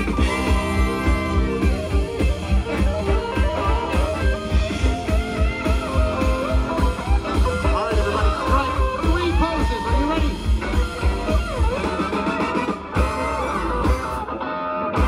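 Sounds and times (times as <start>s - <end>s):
guitar: 0.0s - 15.0s
swing band playing: 0.0s - 15.0s.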